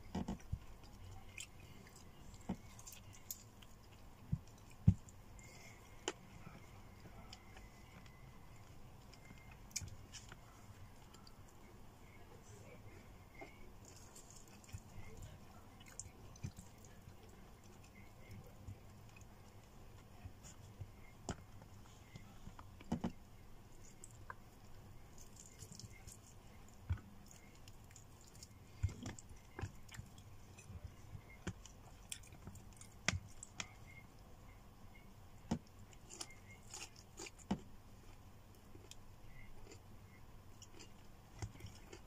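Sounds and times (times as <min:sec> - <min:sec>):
person chewing and smacking: 0:00.0 - 0:23.2, 0:25.1 - 0:34.0, 0:34.9 - 0:42.0.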